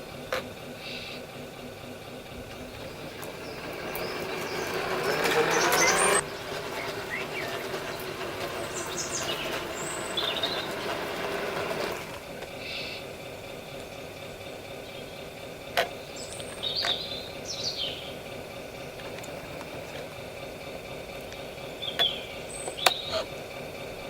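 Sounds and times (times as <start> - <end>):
toy truck engine hum: 0.0 - 24.0
birds chirping: 2.3 - 24.0.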